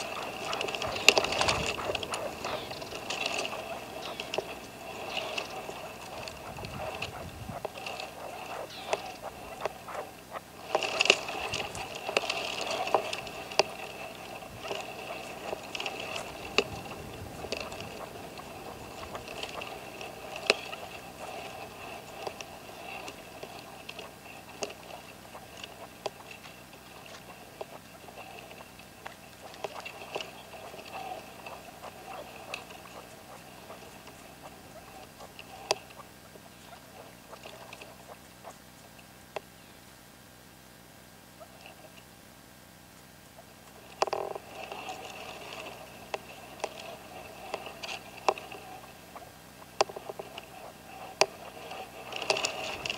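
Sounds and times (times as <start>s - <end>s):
partridge clucking and ticking: 0.0s - 39.5s, 43.3s - 52.9s.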